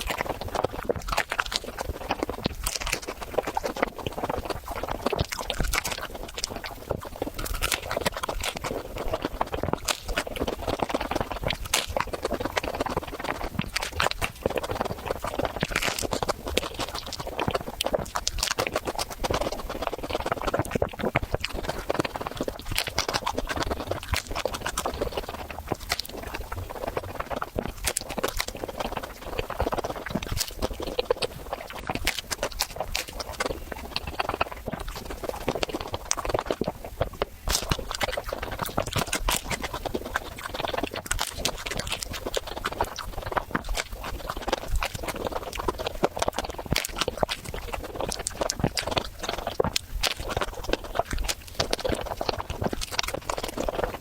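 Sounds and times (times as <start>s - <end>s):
crunchy chewing of a waffle: 0.0s - 54.0s.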